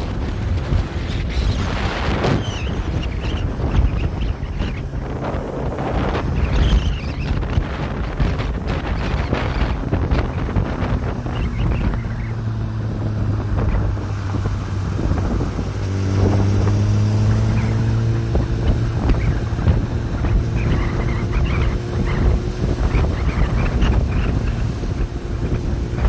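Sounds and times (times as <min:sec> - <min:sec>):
engine running: 0:00.0 - 0:26.0
wind buffeting microphone: 0:00.0 - 0:26.0.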